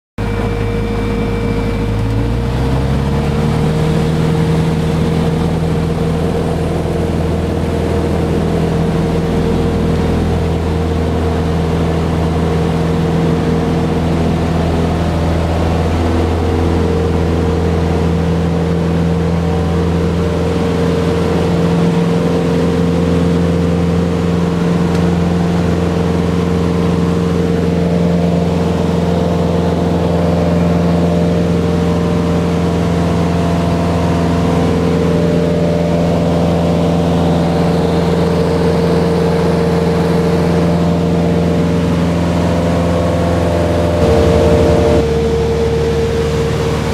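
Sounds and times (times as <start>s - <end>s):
airplane engine and propeller: 0.2s - 46.9s.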